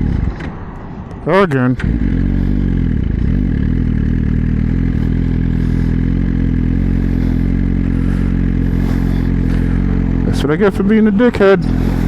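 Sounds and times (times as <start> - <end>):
motorcycle engine idling: 1.6 - 12.0.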